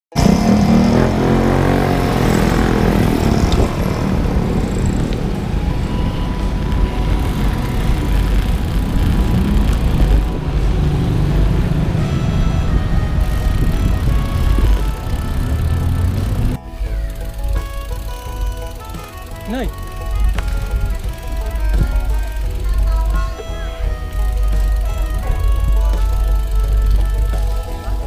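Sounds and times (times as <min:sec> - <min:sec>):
vehicle engine: 0:00.1 - 0:28.0
wind rumbling on microphone: 0:00.2 - 0:18.7, 0:20.0 - 0:28.0.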